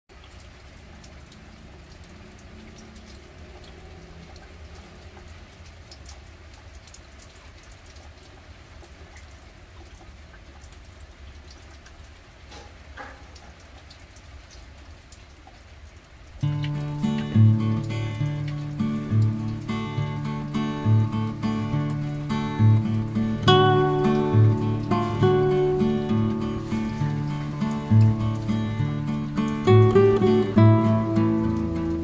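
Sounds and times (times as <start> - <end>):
raindrops ticking: 0.1 - 32.0
steady rain: 0.1 - 32.0.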